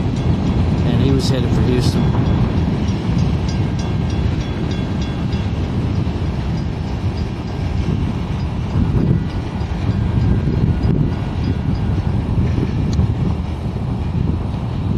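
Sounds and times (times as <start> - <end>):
freight train rumbling past: 0.0 - 14.9.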